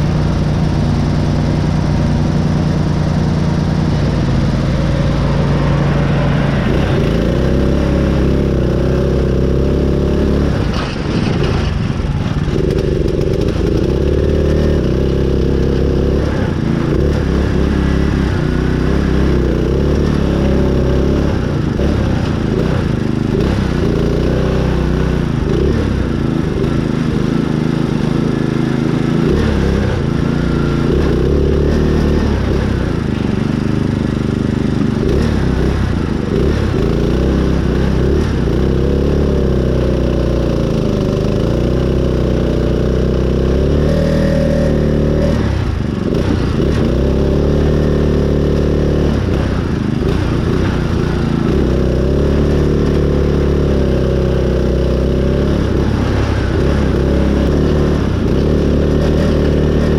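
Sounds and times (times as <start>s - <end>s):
lawn mower engine running hard: 0.0s - 59.9s.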